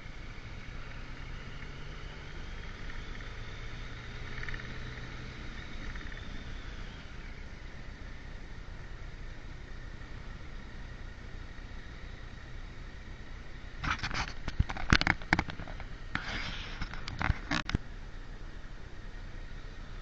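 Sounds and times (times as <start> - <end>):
motorcycle engine hum: 0.0 - 20.0
road noise: 0.0 - 20.0.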